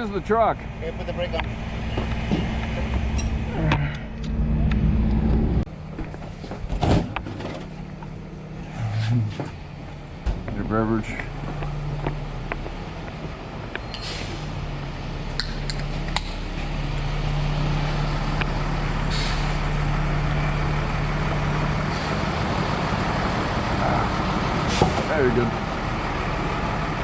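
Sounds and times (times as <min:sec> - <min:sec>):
tow truck engine running: 0:00.0 - 0:27.0.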